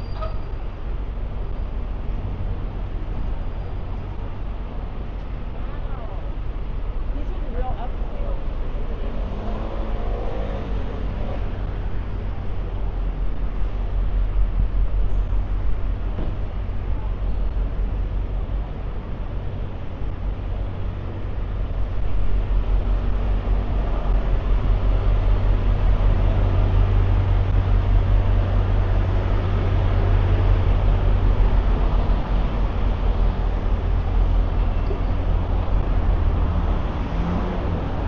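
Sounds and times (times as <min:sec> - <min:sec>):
city road traffic: 0:00.0 - 0:38.0
vehicles passing close by: 0:00.0 - 0:38.0.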